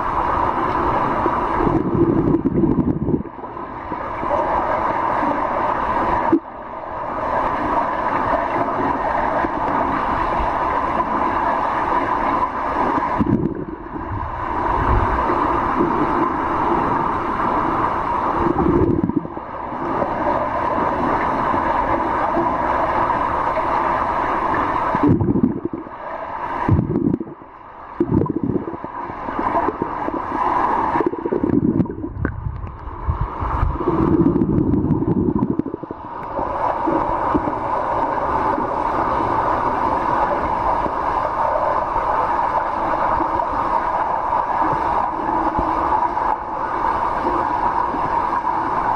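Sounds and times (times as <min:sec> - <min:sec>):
underwater rushing hum: 0:00.0 - 0:48.9.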